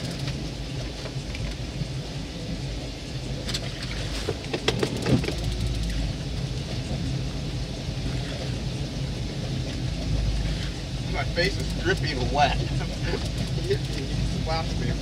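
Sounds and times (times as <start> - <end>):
boat motor running at low revs: 0.0 - 15.0.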